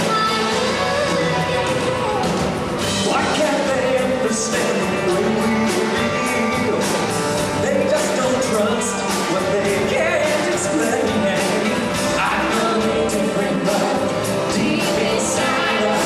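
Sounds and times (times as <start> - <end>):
drum kit with cymbals: 0.0 - 16.0
keyboards: 0.0 - 16.0.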